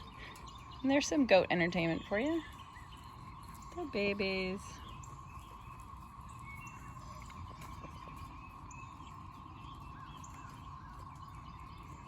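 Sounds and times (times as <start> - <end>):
cicada chorus drone: 0.0 - 12.0.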